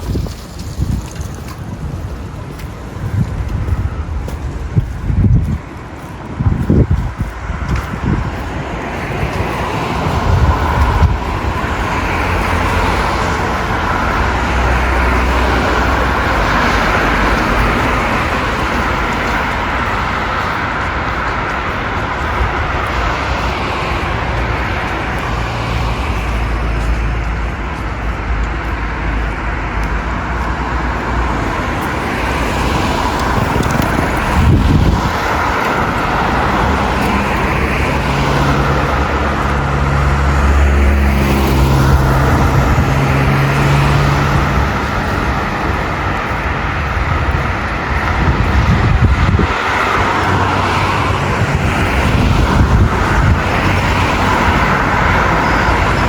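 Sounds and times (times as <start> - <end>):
cars passing road noise: 0.0 - 56.0
vehicle engine humming: 0.0 - 56.0.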